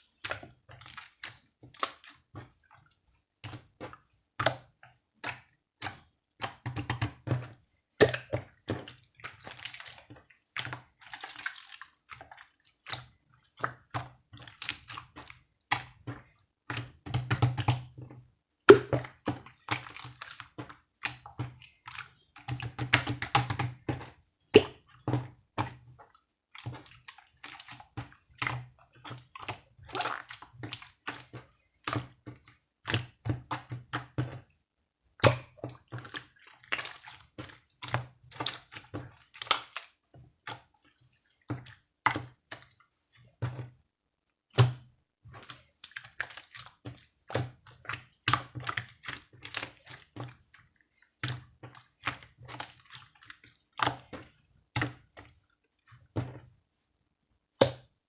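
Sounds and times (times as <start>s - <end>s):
wet clicking and sloshing: 0.0s - 43.8s, 44.4s - 56.5s, 57.5s - 58.0s.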